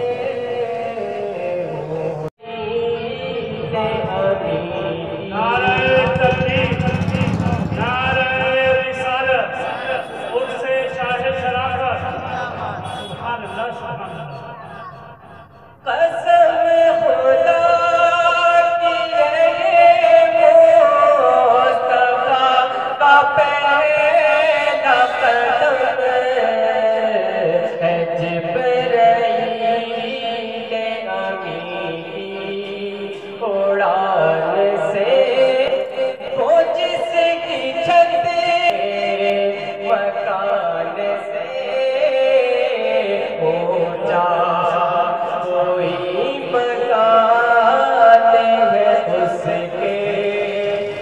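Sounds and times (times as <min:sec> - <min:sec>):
man chanting into a microphone: 0:00.0 - 0:15.1, 0:15.7 - 0:51.0.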